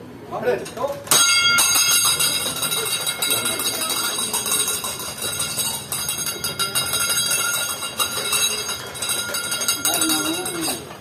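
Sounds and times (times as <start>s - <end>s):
metallic ringing and jingling: 1.1s - 11.0s.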